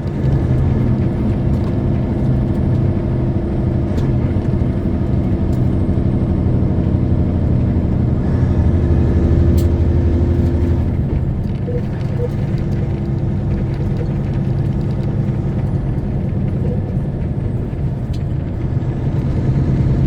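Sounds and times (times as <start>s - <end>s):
road noise: 0.0s - 20.0s
truck diesel engine running: 0.0s - 20.0s.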